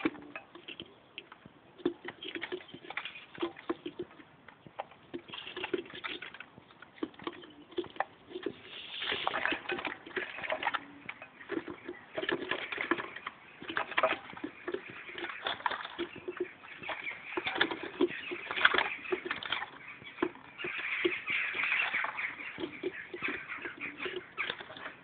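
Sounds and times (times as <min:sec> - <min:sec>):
bird calling and twittering: 0:00.0 - 0:25.0.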